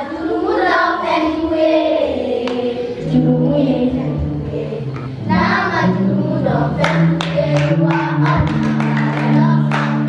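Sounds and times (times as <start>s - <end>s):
children's choir singing: 0.0s - 10.0s
steady low notes: 1.1s - 10.0s.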